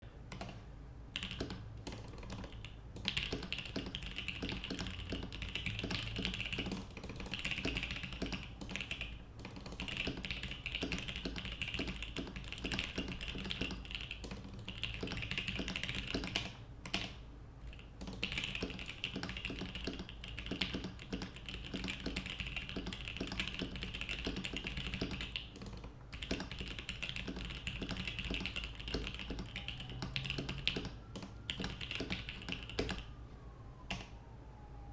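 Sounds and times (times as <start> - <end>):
typing on mechanical keyboard: 0.3 - 0.6, 1.2 - 33.1, 33.9 - 34.1.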